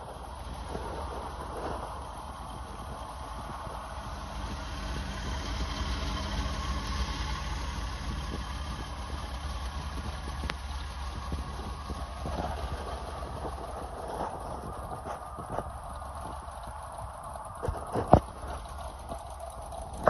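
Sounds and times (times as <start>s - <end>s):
van engine running: 0.0s - 20.0s.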